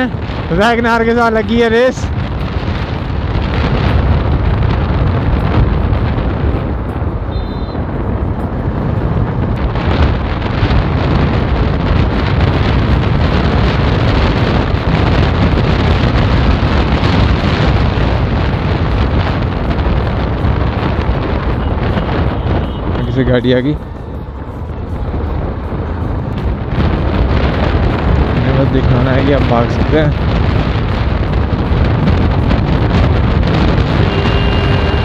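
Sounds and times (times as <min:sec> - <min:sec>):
motorcycle engine running hard: 0:00.0 - 0:35.0
wind buffeting microphone: 0:00.0 - 0:35.0.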